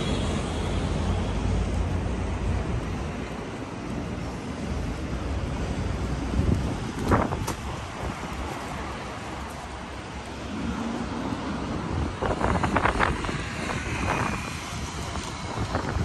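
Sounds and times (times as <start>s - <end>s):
traffic passing: 0.0s - 16.0s
wind buffeting microphone: 1.6s - 16.0s.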